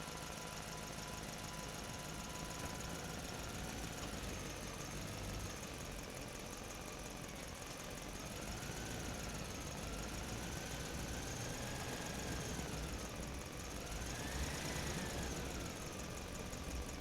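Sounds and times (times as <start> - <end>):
faint engine whine: 0.0 - 17.0
truck engine running: 0.6 - 17.0.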